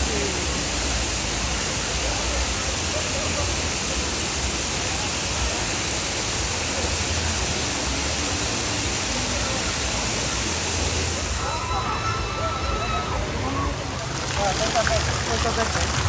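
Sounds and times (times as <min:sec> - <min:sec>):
water rushing down steps: 0:00.0 - 0:16.0.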